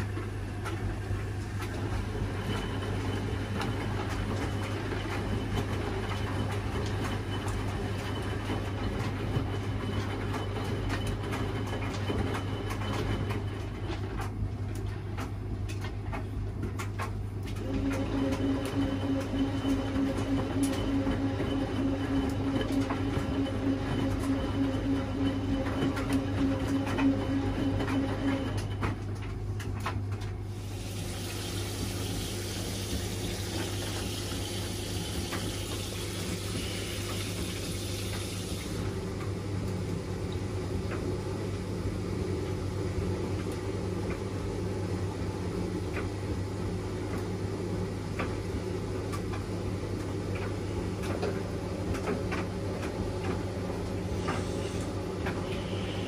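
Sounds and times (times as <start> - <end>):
washing machine motor hum: 0.0 - 56.0.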